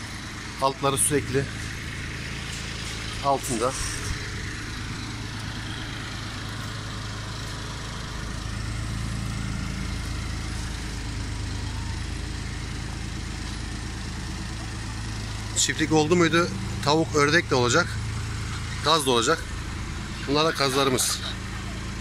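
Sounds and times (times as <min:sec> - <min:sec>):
engine idling hum: 0:00.0 - 0:22.0.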